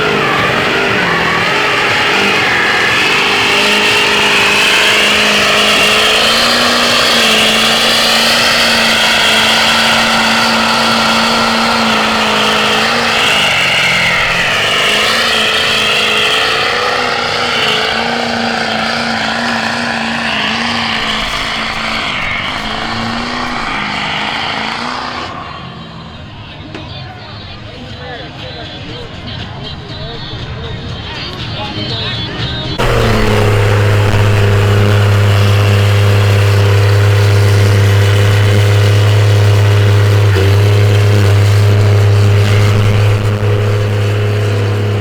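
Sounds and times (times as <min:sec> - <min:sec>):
vehicle engine revving high: 0:00.0 - 0:26.6, 0:32.8 - 0:45.0.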